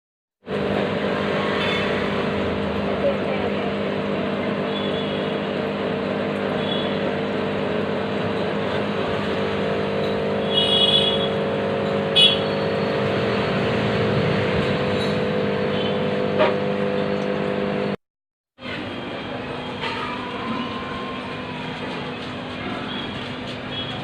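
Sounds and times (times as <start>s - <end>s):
mechanical hum: 0.5s - 18.0s, 18.6s - 24.0s.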